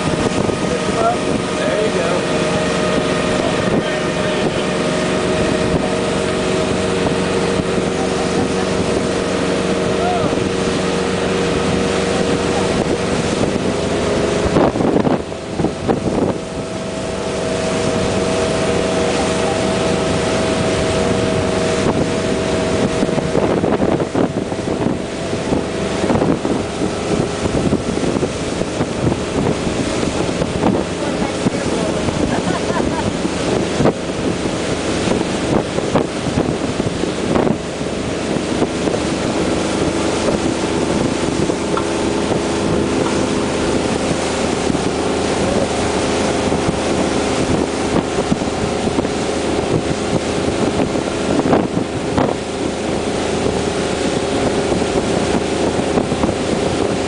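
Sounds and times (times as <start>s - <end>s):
boat engine running: 0.0s - 57.0s
boat wake rushing: 0.0s - 57.0s
wind gusting on microphone: 0.0s - 57.0s.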